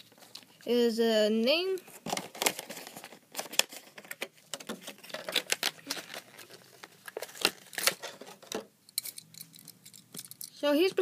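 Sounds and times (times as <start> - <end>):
plastic packaging crinkling and clicking: 0.0 - 0.6, 1.7 - 10.6.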